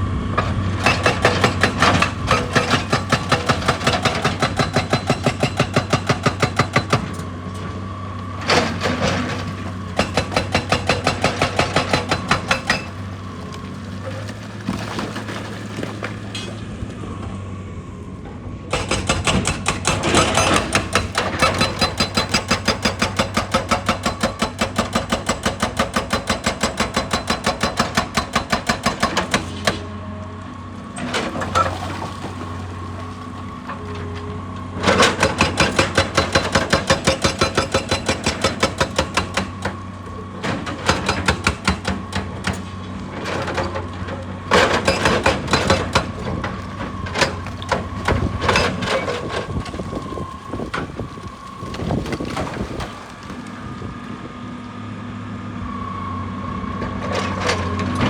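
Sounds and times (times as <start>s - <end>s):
hydraulic rock breaker hammering: 0.3s - 17.1s, 18.7s - 30.0s, 30.8s - 53.9s.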